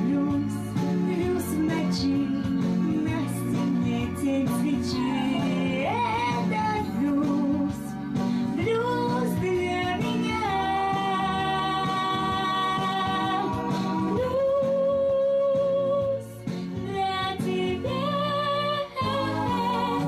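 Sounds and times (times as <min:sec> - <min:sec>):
slow blues backing music: 0:00.0 - 0:20.0
woman singing: 0:00.0 - 0:20.0.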